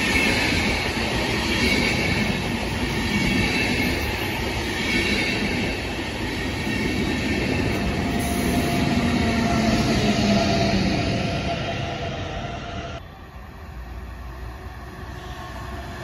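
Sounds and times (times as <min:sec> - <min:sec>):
electric locomotive hum: 0:00.0 - 0:16.0
train coaches rumbling over rails: 0:00.0 - 0:16.0.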